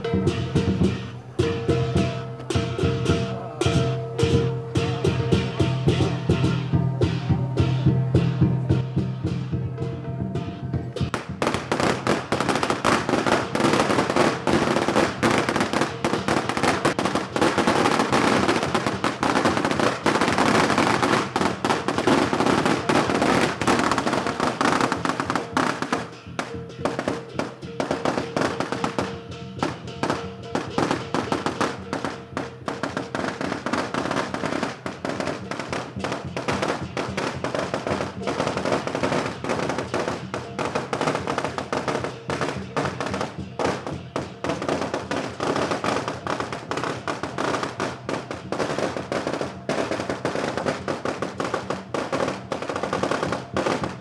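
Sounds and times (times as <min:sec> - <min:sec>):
firecrackers crackling: 0:00.0 - 0:54.0
lion dance drumming: 0:00.0 - 0:54.0.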